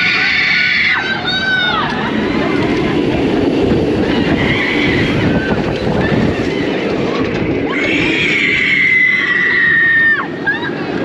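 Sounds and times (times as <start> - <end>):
riders screaming: 0.0 - 3.1, 4.0 - 11.0
wind rushing over microphone: 0.0 - 11.0.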